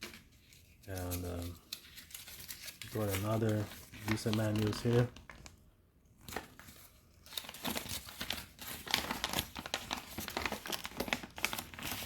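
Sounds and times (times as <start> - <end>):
paper rustling and crinkling: 0.0 - 5.6, 6.2 - 12.0.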